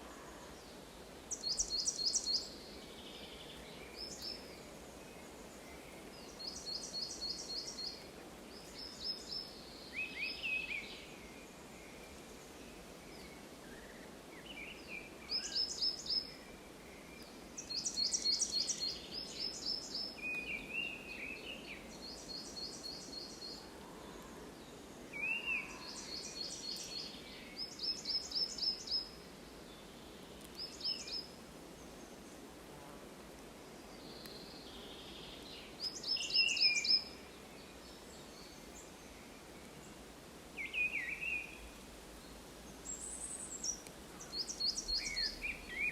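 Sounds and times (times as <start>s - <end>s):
low background hiss: 0.0s - 45.9s
lower bird chirps: 1.3s - 12.1s, 13.0s - 23.7s, 25.1s - 31.4s, 34.0s - 39.5s, 40.6s - 41.8s, 42.8s - 45.9s.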